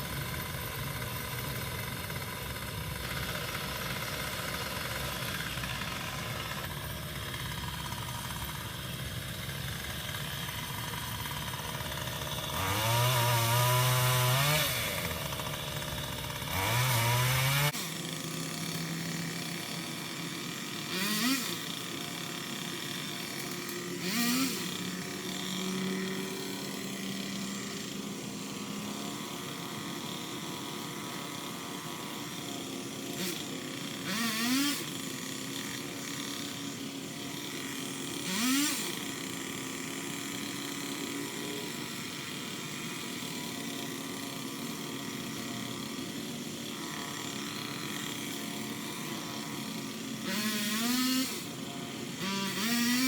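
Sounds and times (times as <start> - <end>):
chainsaw motor revving: 0.0 - 53.0.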